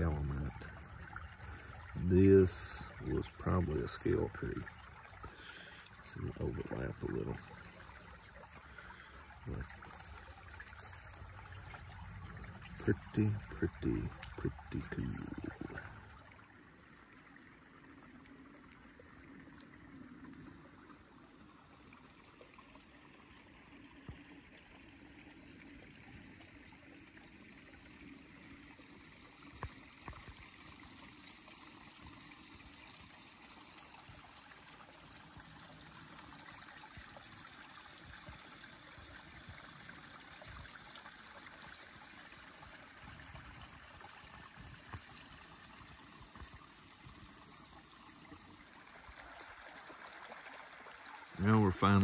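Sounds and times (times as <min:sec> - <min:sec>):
creek trickling: 0:00.0 - 0:52.0.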